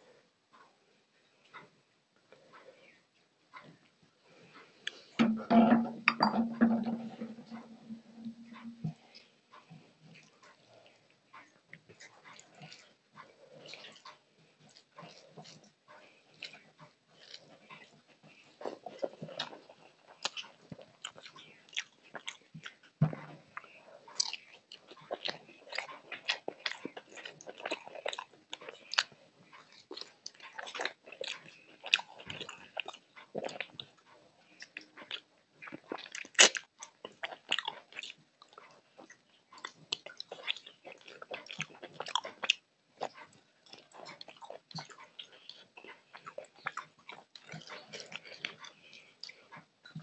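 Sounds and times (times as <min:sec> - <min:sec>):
wet chewing and lip-smacking: 0:07.0 - 0:50.0.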